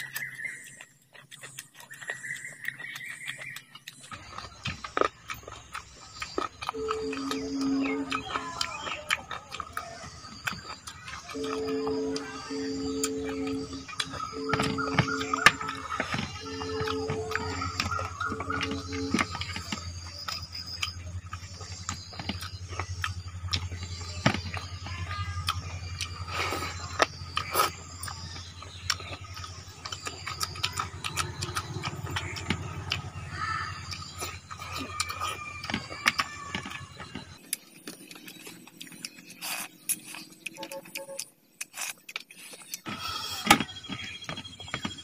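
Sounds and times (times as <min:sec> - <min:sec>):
chewing and mouth clicks: 0:00.0 - 0:45.0
low hum: 0:04.1 - 0:41.4.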